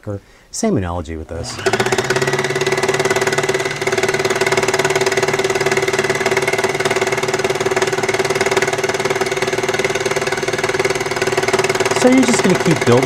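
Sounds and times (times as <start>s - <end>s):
felting machine motor hum: 1.4s - 13.0s
fast needle chatter: 1.5s - 13.0s.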